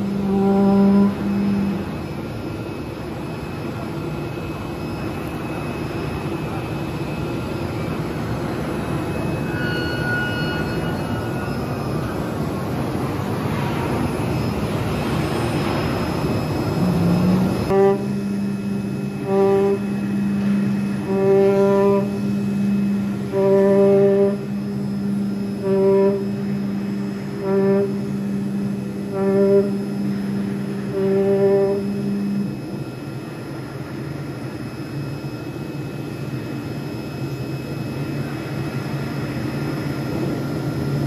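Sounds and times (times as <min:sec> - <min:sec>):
machine humming with pitched whine: 0:00.0 - 0:41.0.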